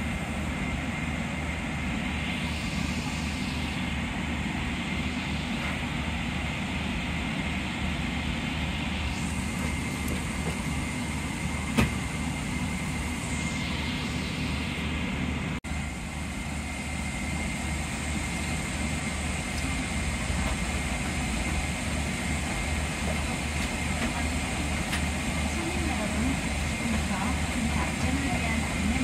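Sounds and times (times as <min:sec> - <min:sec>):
aircraft cabin noise: 0:00.0 - 0:29.0.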